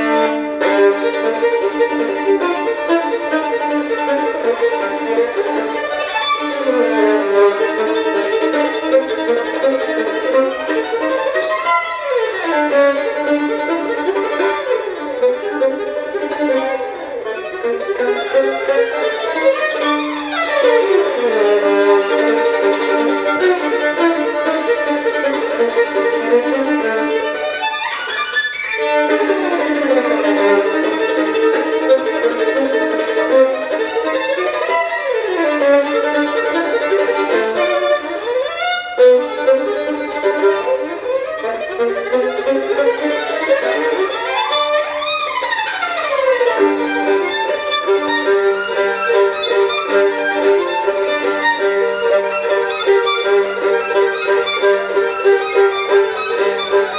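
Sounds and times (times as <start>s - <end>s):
solo violin playing fast: 0.0s - 56.9s.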